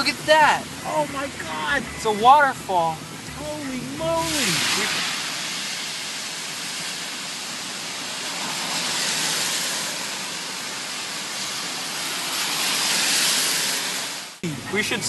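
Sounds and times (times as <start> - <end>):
torrential rain: 0.0 - 15.0
tyres on wet road: 0.0 - 15.0.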